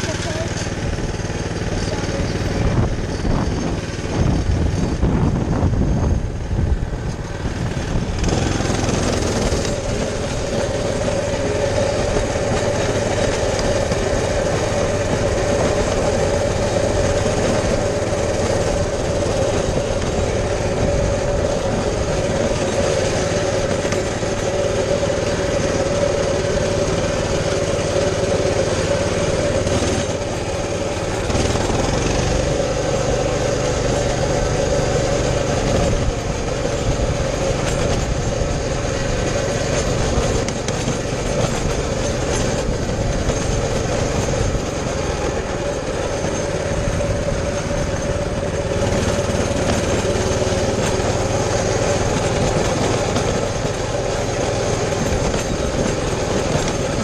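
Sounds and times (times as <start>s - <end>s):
minibike engine running: 0.0s - 57.0s.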